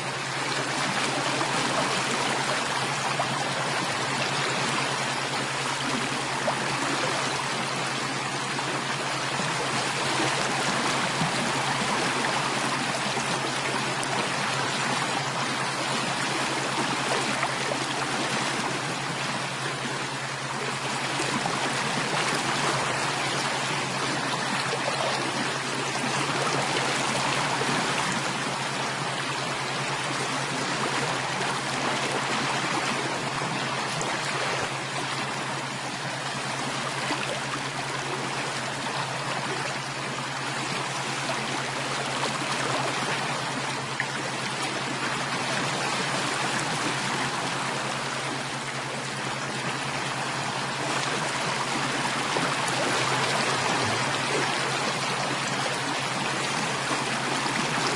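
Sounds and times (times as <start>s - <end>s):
stream flowing: 0.0s - 57.9s.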